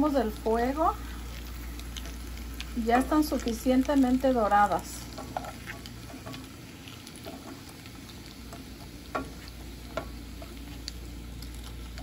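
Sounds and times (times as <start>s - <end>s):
oil sizzling with pops: 0.0s - 12.0s.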